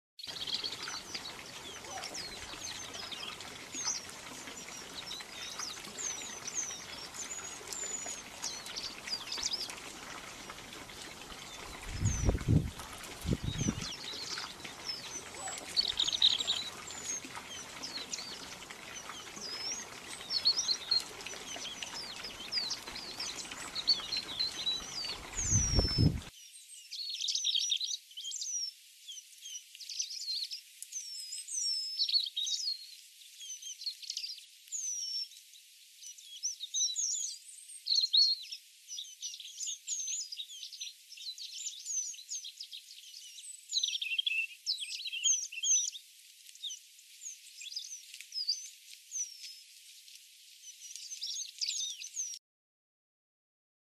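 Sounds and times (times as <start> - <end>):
small birds chirping: 0.2 - 52.4.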